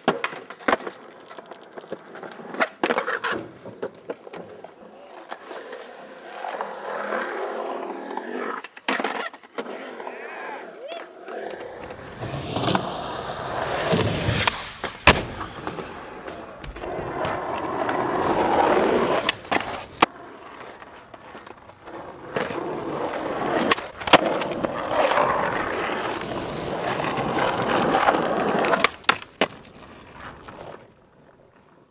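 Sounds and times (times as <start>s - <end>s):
skateboard clacks: 0.0s - 6.1s, 10.8s - 31.9s
skateboard wheels rolling on concrete: 0.0s - 31.9s.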